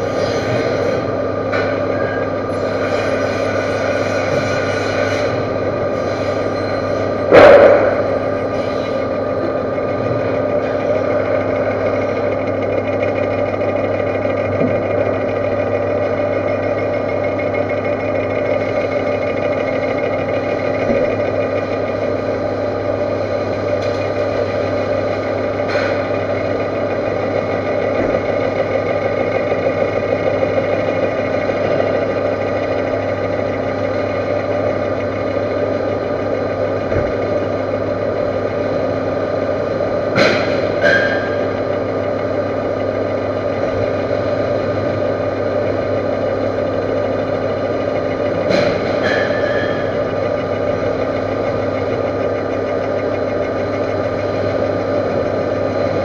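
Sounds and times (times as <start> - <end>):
lathe machine hum: 0.0 - 56.0.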